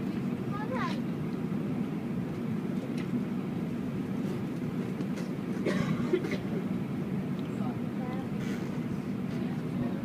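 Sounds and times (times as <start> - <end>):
airplane cabin hum: 0.0 - 10.0.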